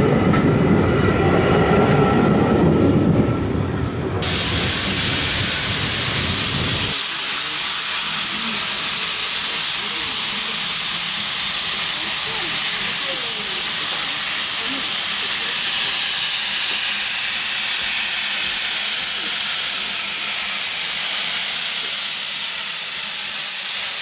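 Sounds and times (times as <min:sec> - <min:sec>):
train wheels rumbling on rails: 0:00.0 - 0:24.0
steam hissing from locomotive: 0:04.2 - 0:24.0.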